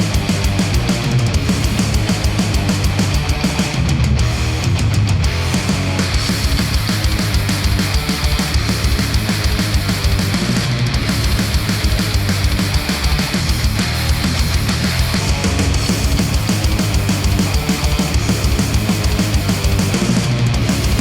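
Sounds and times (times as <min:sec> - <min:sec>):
fast kick-drum: 0:00.0 - 0:21.0
heavy metal rock music: 0:00.0 - 0:21.0.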